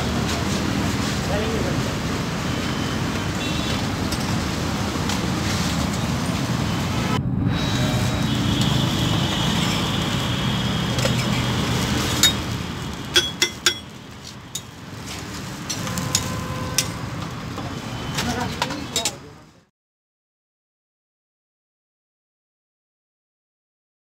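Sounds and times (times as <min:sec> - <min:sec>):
street traffic rumble: 0:00.0 - 0:19.7.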